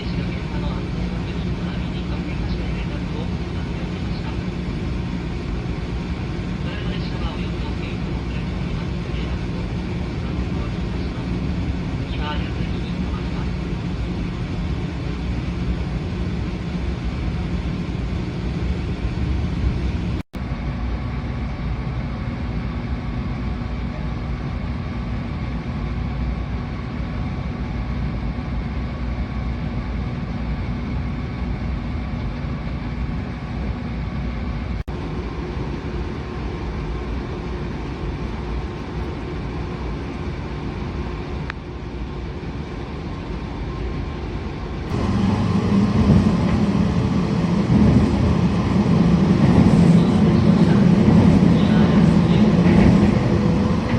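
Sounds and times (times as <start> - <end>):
train rumble inside carriage: 0.0 - 53.9.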